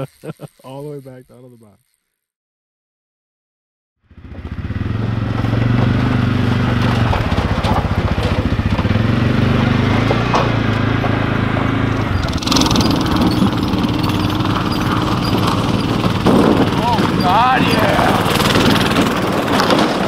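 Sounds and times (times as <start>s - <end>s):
small engine running: 0.0s - 2.3s, 4.0s - 20.0s.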